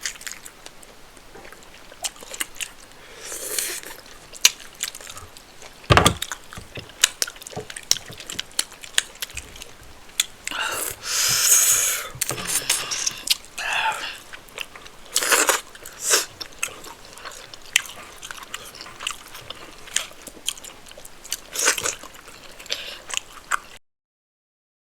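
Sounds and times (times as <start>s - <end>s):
chewing and wet mouth sounds: 0.0s - 23.8s.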